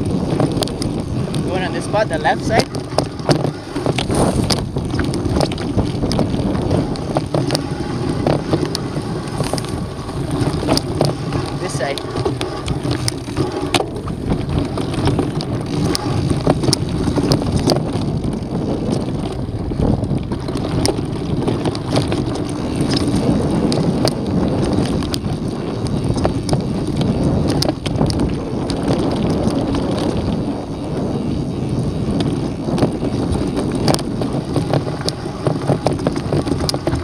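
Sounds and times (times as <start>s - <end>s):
bike clicks and rattles: 0.0s - 37.0s
bike tyre rumble on dirt trail: 0.0s - 37.0s
wind noise on microphone: 0.0s - 37.0s.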